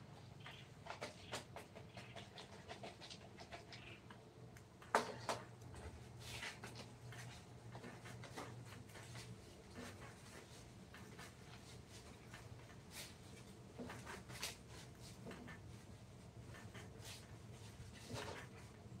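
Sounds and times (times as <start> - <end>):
faint scratching and taps: 0.4 - 19.0.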